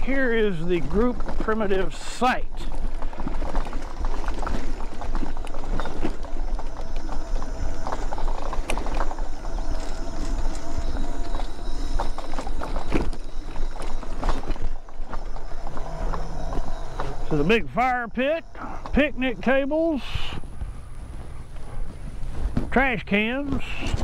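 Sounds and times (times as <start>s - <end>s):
faint motor whine: 0.0s - 24.0s.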